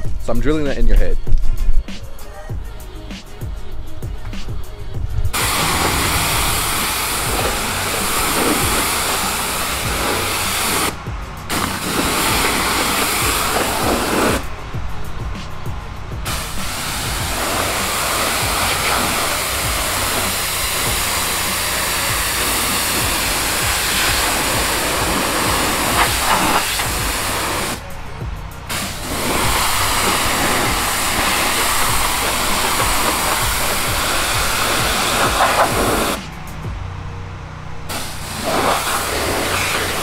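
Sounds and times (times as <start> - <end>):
steady low hum: 0.0 - 40.0
pressure washer spray hissing: 2.7 - 36.6, 37.9 - 40.0.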